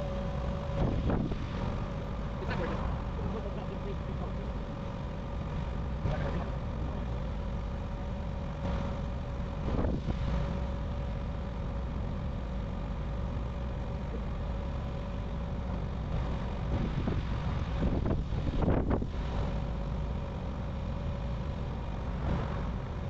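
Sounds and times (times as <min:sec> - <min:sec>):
heavy machinery engine rumbling: 0:00.0 - 0:23.0
steady whine: 0:00.0 - 0:23.0.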